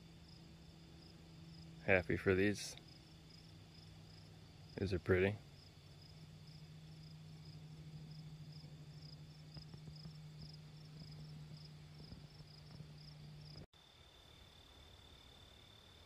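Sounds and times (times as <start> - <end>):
low hum: 0.0 - 13.7
faint insect chirping: 0.0 - 16.0.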